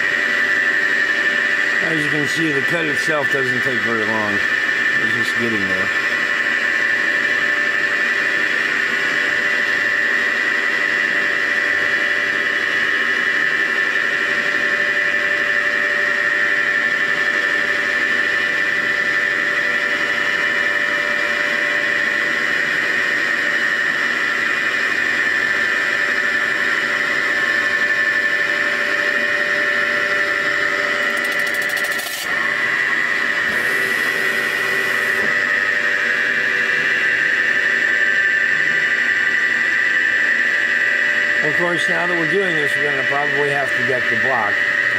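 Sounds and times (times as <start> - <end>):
milling machine spindle whine: 0.0 - 44.9.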